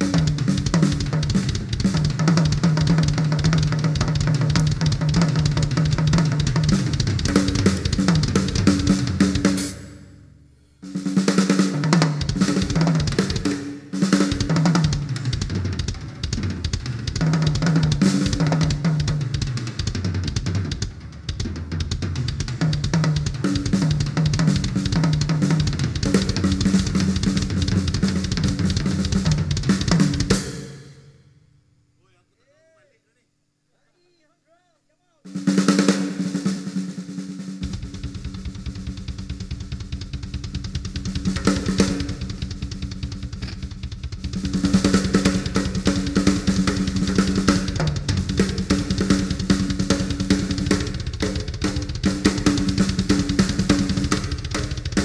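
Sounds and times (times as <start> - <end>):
drum kit solo: 0.0 - 31.2, 35.2 - 55.0.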